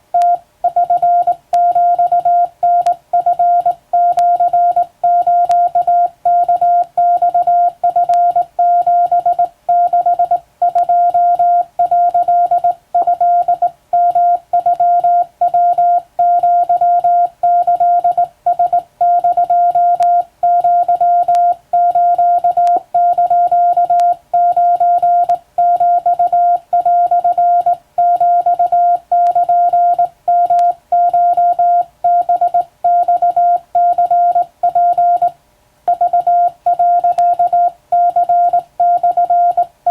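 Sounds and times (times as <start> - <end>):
morse code beep tone: 0.2 - 39.9.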